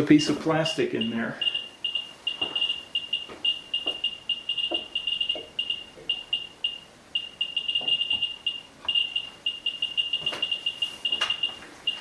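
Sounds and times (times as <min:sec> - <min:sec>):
high-pitched detector chirps: 0:01.0 - 0:12.0.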